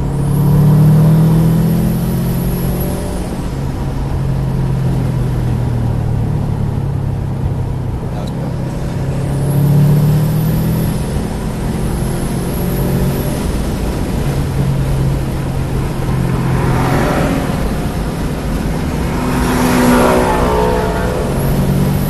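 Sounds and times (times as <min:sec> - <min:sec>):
car engine under load: 0:00.0 - 0:22.0.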